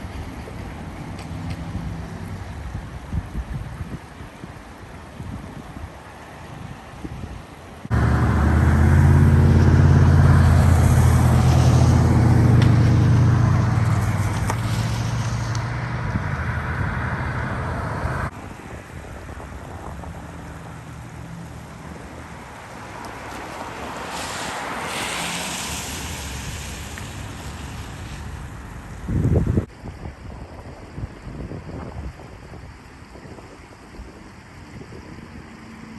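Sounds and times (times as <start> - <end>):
water spray rushing: 0.0 - 29.6
vehicle engine hum: 0.0 - 29.7
road and water noise: 0.0 - 35.9.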